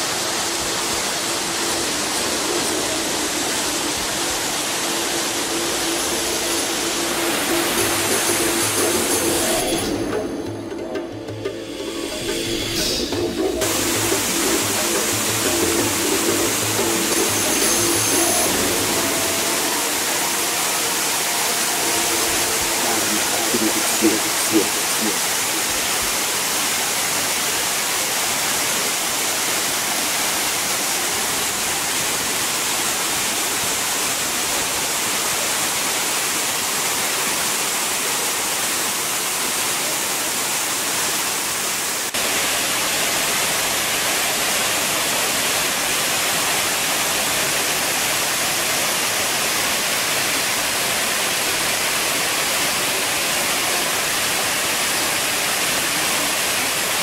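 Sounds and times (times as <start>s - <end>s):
waterfall rushing over rocks: 0.0s - 11.1s, 11.7s - 57.0s.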